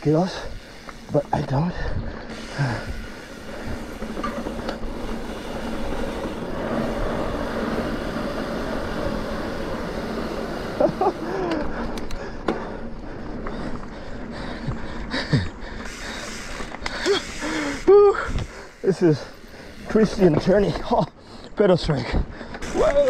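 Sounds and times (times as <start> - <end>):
bike tyres rolling on dirt: 0.0 - 23.0
bike rattling and knocking: 0.3 - 17.4, 18.2 - 21.1.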